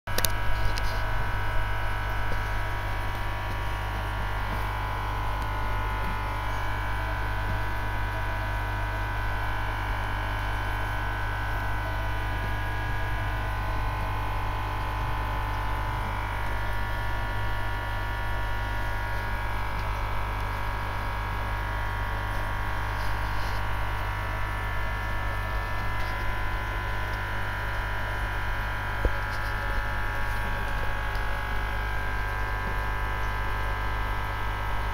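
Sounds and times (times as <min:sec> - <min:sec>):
aquarium filter pump humming: 0:00.1 - 0:34.9
low electrical hum: 0:00.1 - 0:34.9.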